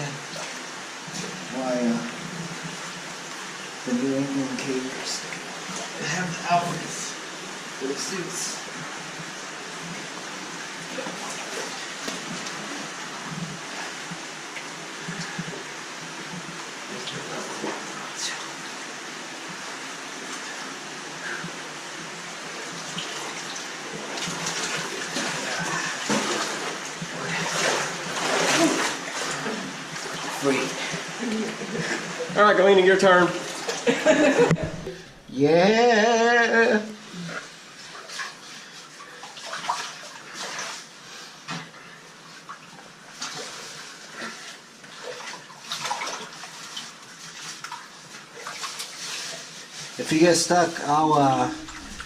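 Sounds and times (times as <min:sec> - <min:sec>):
water rushing through a cave: 0:00.0 - 0:52.0.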